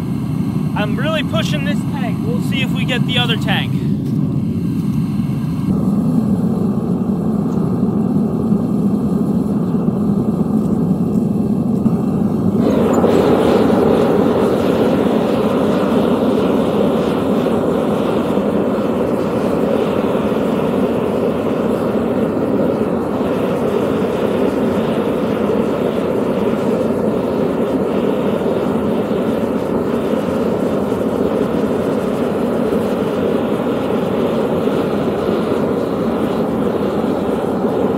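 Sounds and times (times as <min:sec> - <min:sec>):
gas burner roaring: 0:00.0 - 0:37.9.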